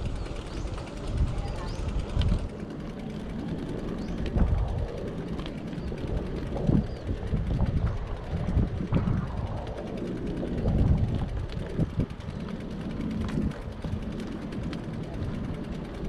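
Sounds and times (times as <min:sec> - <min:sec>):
bicycle thumps and rattles: 0:00.0 - 0:16.0
wind buffeting microphone: 0:00.0 - 0:16.0.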